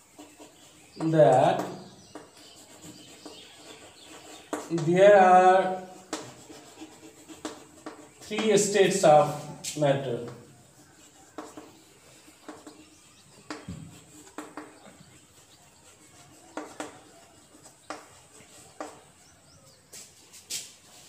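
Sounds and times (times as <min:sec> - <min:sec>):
chalk tapping and scraping on chalkboard: 0:00.0 - 0:21.0.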